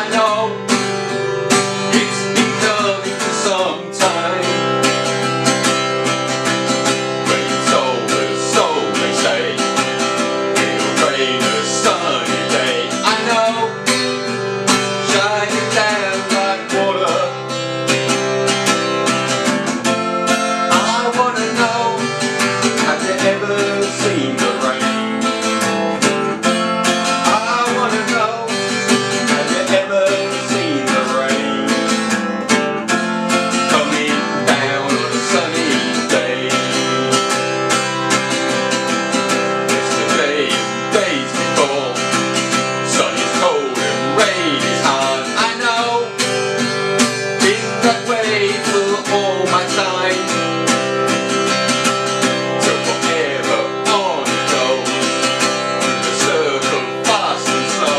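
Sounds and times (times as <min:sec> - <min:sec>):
man singing: 0:00.0 - 0:18.6, 0:19.8 - 0:32.6, 0:33.3 - 0:57.9
acoustic guitar strumming: 0:00.0 - 0:57.9.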